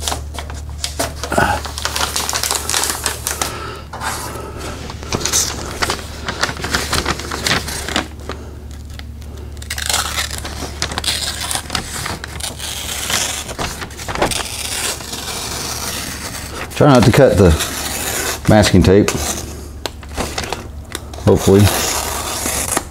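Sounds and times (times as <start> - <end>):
paper rustling and crackling: 0.0 - 22.9.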